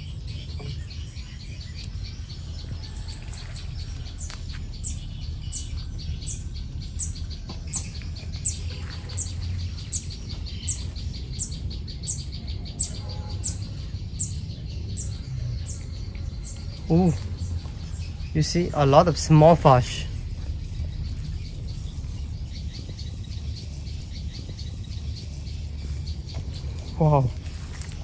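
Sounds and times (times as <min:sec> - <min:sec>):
low rumble: 0:00.0 - 0:28.0
high insect trill: 0:01.9 - 0:28.0.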